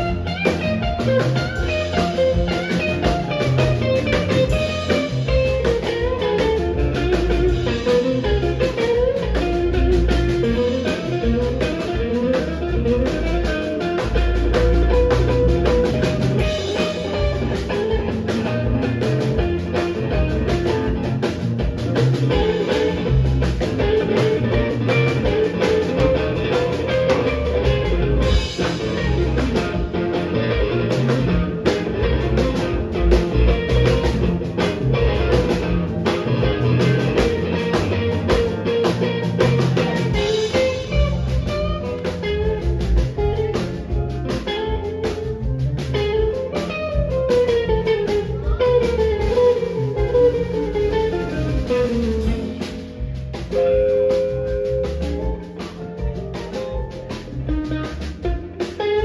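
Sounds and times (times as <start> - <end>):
bass guitar: 0.0 - 59.0
drum kit beat: 0.0 - 59.0
electric guitar playing: 0.0 - 59.0.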